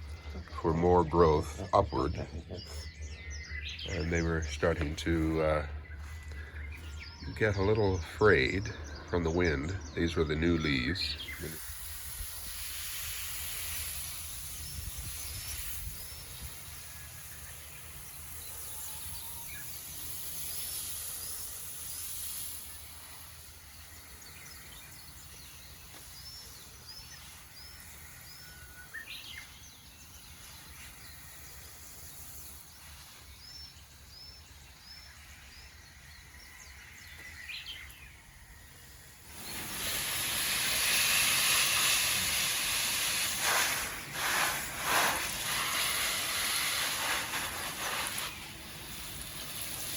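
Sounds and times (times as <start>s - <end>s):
songbird chirping: 0.0s - 12.3s, 13.4s - 49.9s
outdoor hiss: 9.4s - 49.9s.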